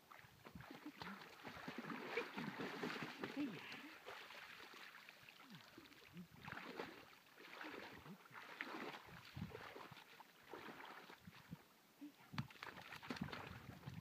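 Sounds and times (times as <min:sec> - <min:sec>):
person wading through water: 0:00.0 - 0:14.0.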